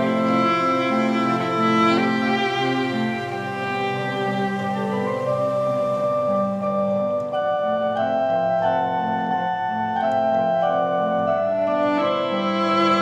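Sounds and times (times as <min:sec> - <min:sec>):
instrumental music sustained chords: 0:00.0 - 0:13.0.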